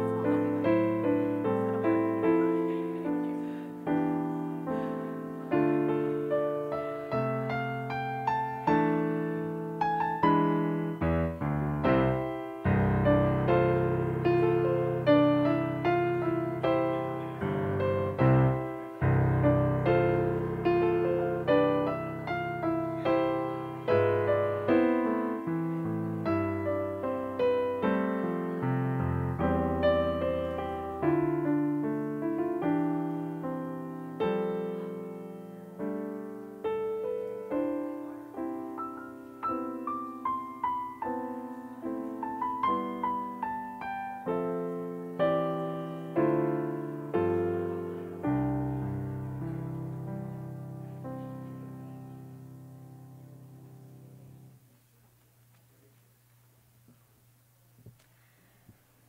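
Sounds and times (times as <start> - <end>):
gentle solo piano: 0.0 - 54.7.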